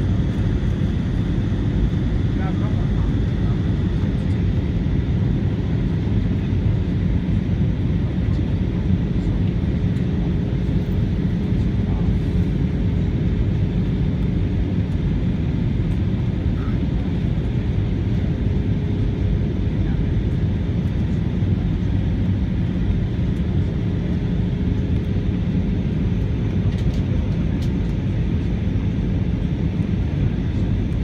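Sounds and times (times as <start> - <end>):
jet engines and airflow rumble: 0.0 - 31.0.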